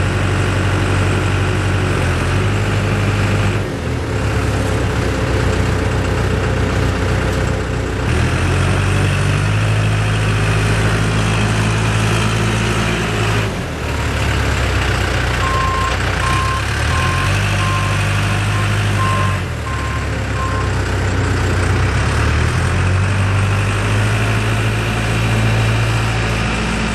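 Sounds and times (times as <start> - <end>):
diesel engine under load: 0.0 - 26.9.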